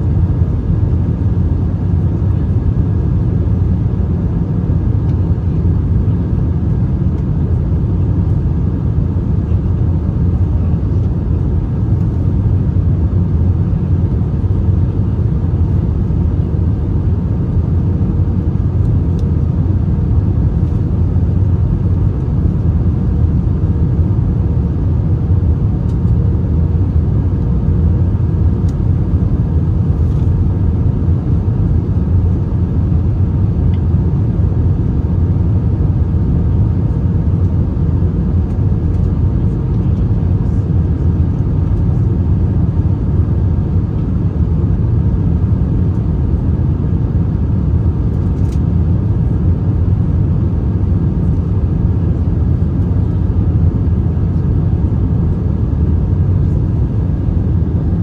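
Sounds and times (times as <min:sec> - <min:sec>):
airplane cabin rumble: 0:00.0 - 0:58.0
faint steady hum: 0:00.0 - 0:58.0.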